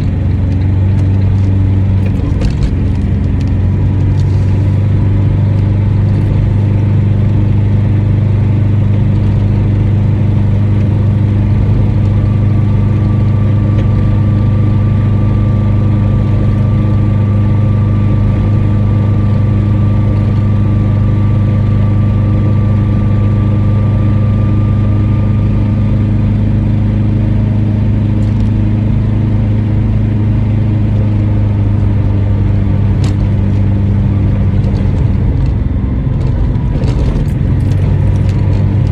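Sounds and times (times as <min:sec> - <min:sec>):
car engine and road drone: 0:00.0 - 0:38.9.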